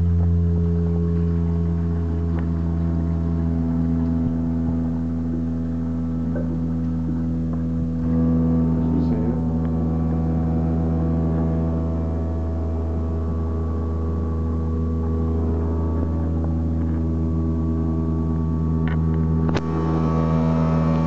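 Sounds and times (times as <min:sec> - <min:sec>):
toilet plumbing droning: 0:00.0 - 0:21.0.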